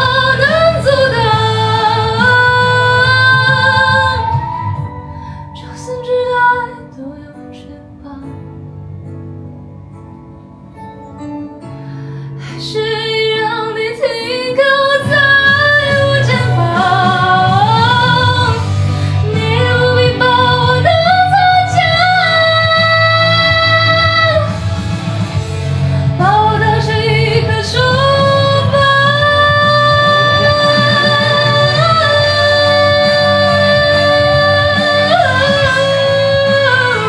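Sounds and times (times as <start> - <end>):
woman singing pop ballad: 0.0 - 8.6, 12.4 - 37.0
guitar backing track: 0.0 - 37.0.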